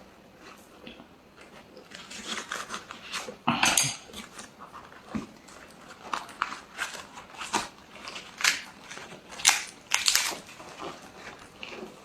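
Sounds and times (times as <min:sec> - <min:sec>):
loud crunch of eating: 0:00.3 - 0:12.0.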